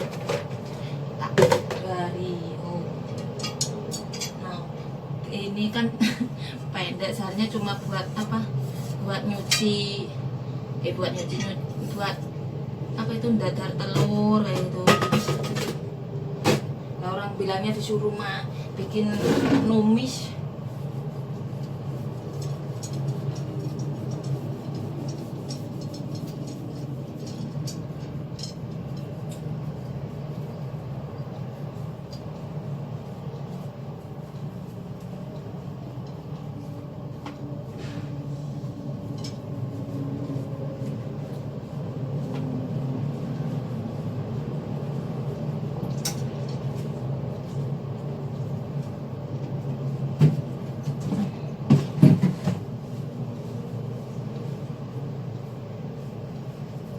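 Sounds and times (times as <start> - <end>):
low machine hum: 0.0 - 56.9.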